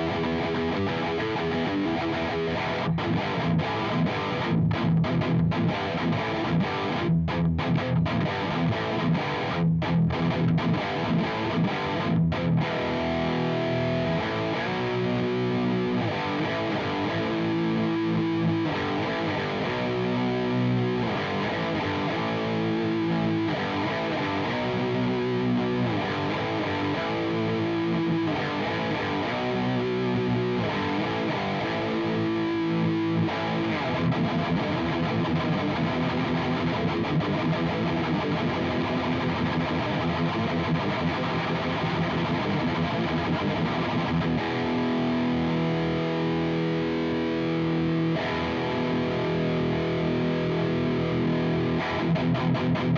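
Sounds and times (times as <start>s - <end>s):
distorted electric guitar chords: 0.0s - 52.9s
fast picked guitar riff: 0.0s - 52.9s.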